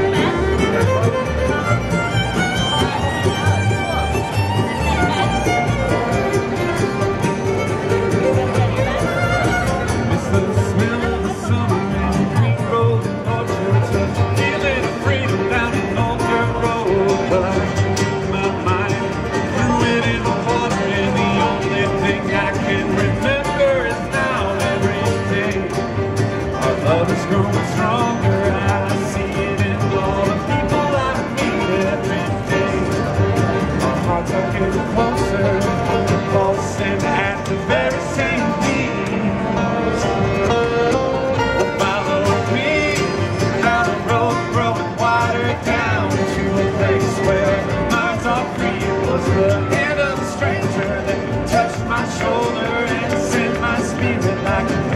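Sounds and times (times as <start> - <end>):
acoustic guitar picking: 0.0 - 54.9
banjo: 0.0 - 54.9
bluegrass band playing: 0.0 - 54.9
mandolin: 0.0 - 54.9
upright bass: 0.0 - 54.9.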